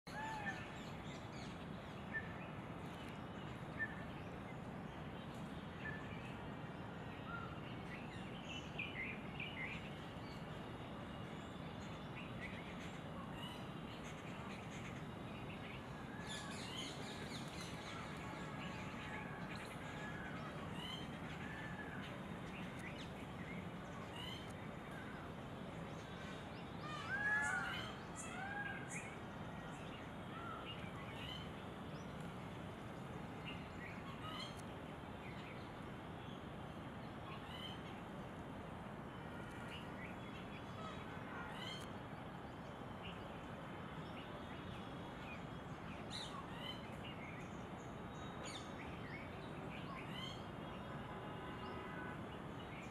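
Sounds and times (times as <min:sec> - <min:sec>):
background hiss: 0:00.1 - 0:52.9.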